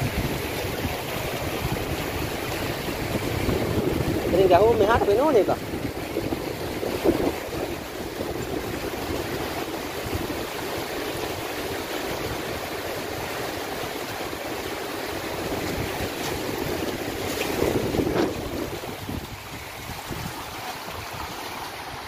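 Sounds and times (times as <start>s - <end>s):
water rushing through sluice gate: 0.0s - 22.0s.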